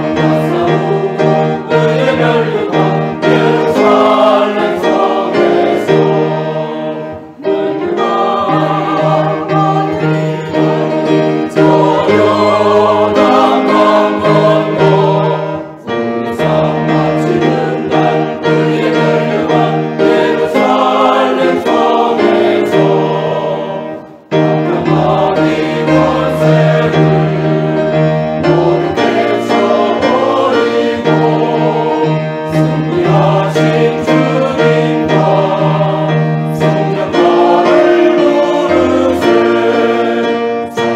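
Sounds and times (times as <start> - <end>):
church choir singing a hymn: 0.0 - 40.9.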